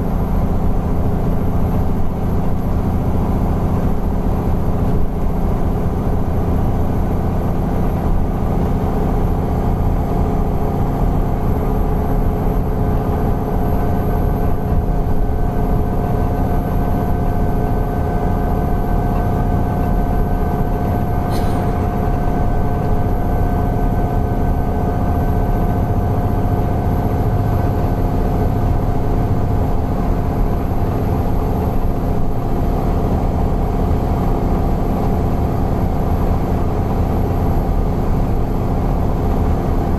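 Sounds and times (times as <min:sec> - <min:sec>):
bus engine drone with whistling: 0:00.0 - 0:39.9.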